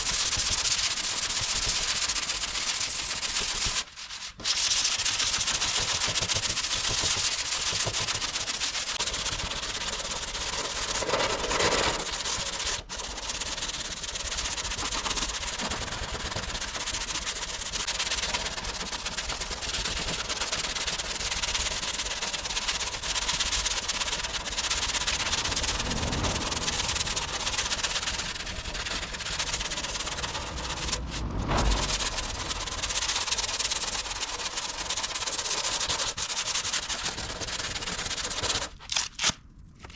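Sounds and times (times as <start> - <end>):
sandpaper rasping over filler: 0.0 - 39.4.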